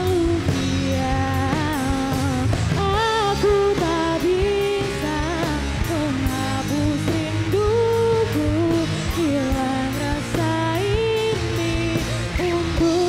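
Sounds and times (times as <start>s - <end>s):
drum kit with cymbals: 0.0s - 13.0s
electric guitars: 0.0s - 13.0s
woman singing: 0.0s - 13.0s.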